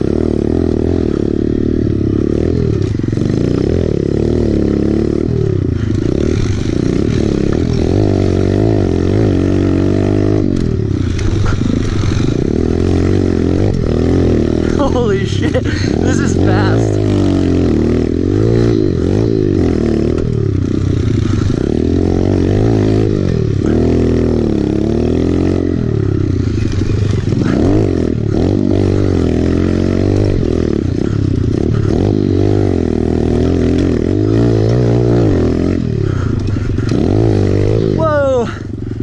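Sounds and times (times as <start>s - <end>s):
pit bike engine revving: 0.0s - 39.0s.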